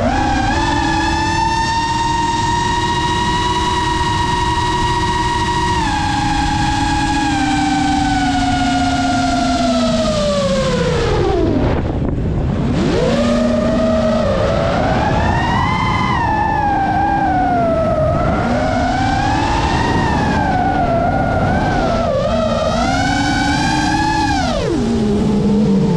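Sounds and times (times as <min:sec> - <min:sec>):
drone motors whining: 0:00.0 - 0:25.9
low rushing noise: 0:00.0 - 0:25.9.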